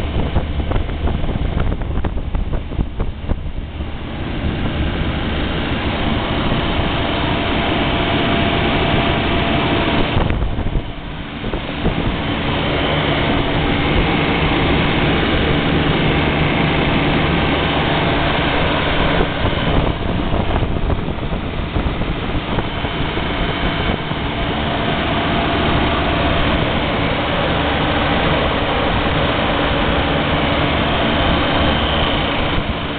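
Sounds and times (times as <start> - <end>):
compressor and fan humming: 0.0 - 32.9.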